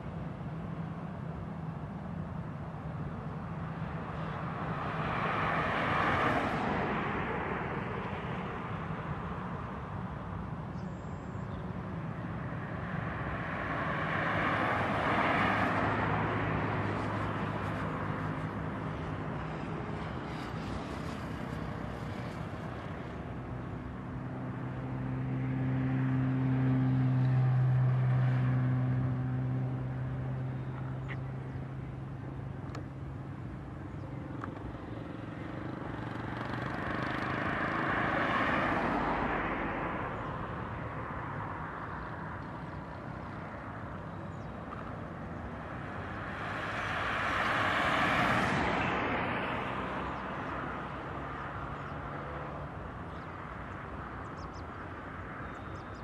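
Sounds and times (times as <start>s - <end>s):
distant jet engines hum: 0.0s - 56.0s
vehicles passing close by: 0.0s - 56.0s.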